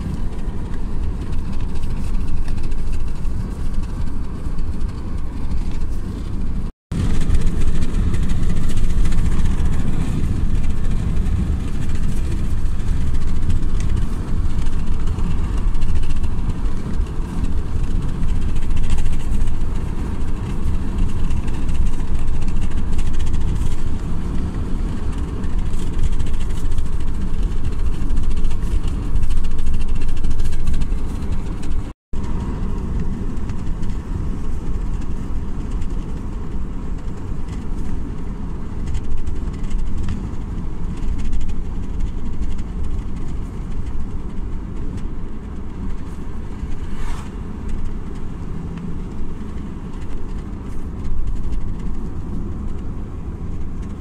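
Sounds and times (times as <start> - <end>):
car road rumble and engine hum: 0.0 - 54.0.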